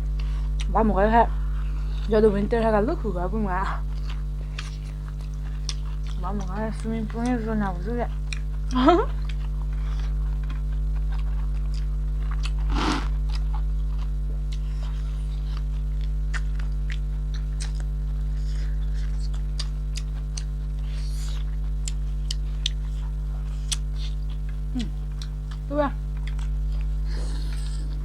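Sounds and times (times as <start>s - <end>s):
electrical mains hum: 0.0s - 28.0s
people chewing food: 0.0s - 28.0s.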